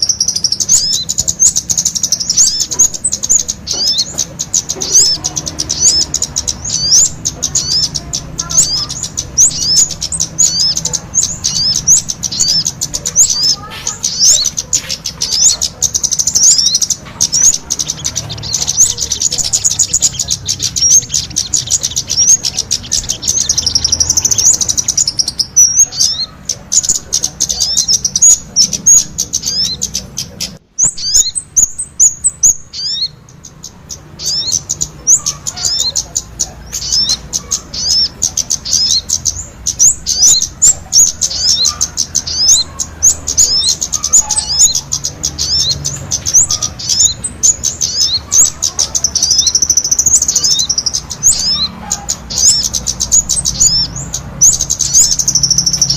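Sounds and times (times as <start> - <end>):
small songbirds singing: 0.0 - 55.9.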